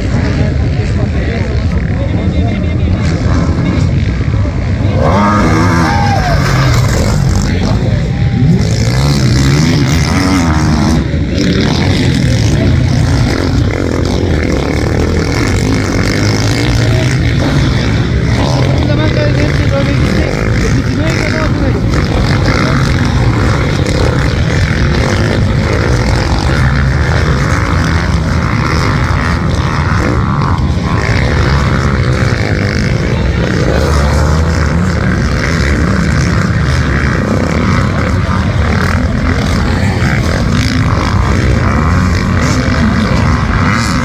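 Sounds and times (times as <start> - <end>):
motocross engines roaring: 0.0 - 44.0.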